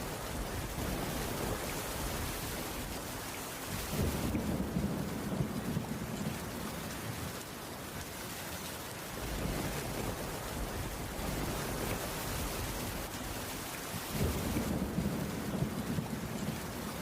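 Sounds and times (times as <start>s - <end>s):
low rumble of thunder: 0.0s - 7.8s, 9.1s - 17.0s
heavy rain on a wooden roof: 0.0s - 17.0s.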